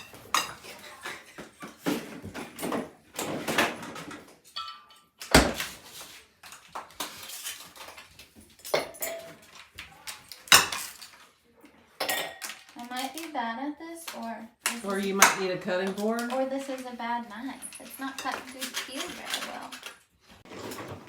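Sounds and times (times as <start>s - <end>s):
kitchenware clattering: 0.0s - 13.4s, 14.0s - 21.0s.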